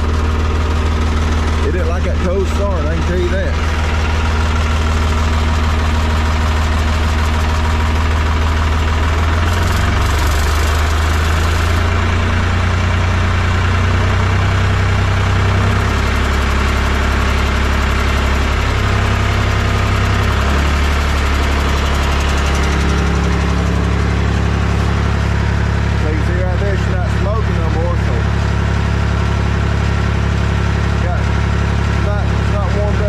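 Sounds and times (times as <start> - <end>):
tractor diesel engine idling: 0.0 - 33.0.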